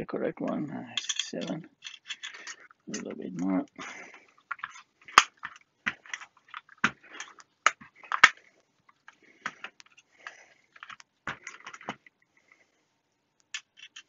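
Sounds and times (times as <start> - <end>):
small hand tools clicking and scraping: 1.0 - 12.1, 13.5 - 14.0.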